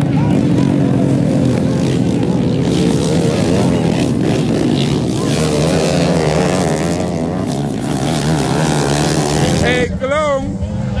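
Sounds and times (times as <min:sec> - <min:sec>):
motorcycle engines racing past: 0:00.0 - 0:11.0.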